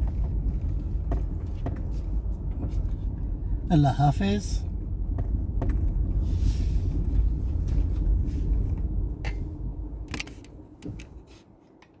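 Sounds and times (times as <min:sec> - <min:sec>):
car cabin rumble: 0:00.0 - 0:11.4.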